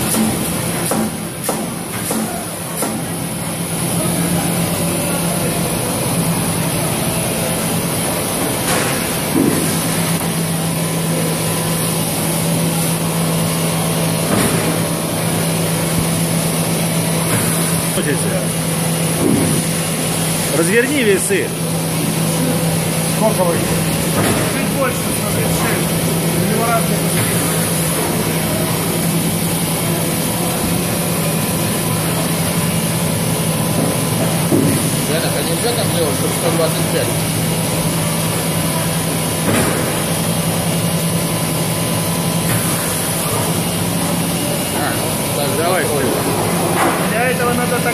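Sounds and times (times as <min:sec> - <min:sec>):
machine humming and droning: 0:00.0 - 0:47.9.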